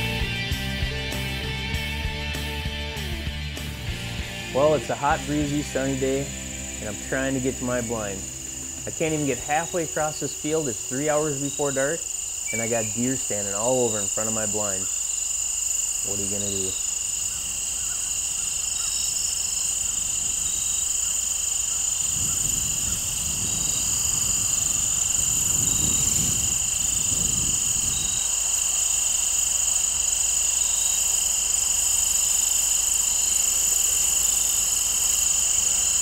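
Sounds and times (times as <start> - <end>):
insects trilling: 3.8 - 36.0.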